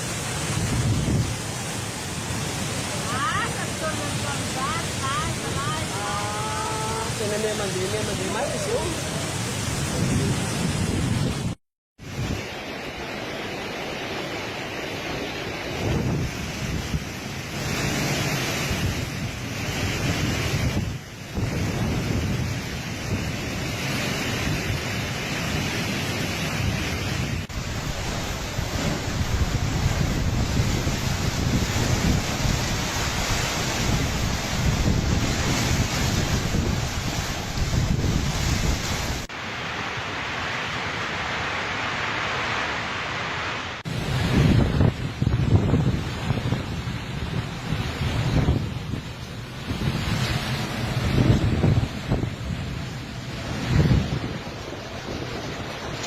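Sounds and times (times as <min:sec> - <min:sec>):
strong wind buffeting microphone: 0:00.0 - 0:12.6, 0:15.5 - 0:39.4, 0:43.8 - 0:56.0.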